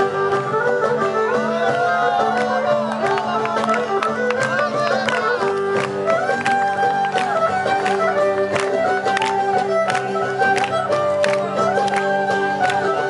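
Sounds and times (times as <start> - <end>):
violin melody: 0.0 - 13.0.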